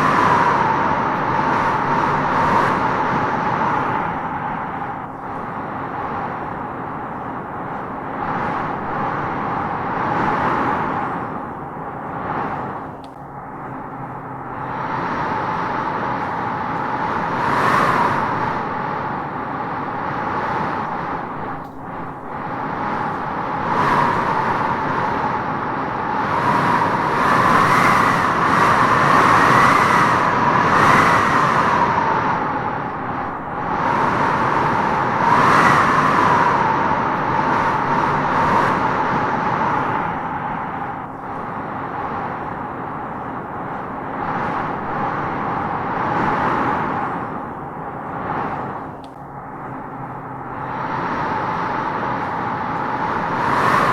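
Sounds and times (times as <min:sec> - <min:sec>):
howling wind gusting through trees: 0:00.0 - 0:53.9.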